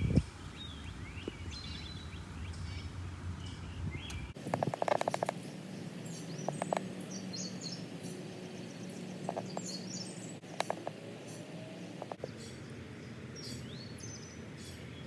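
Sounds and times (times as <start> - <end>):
small birds chirping: 0.5 - 15.0.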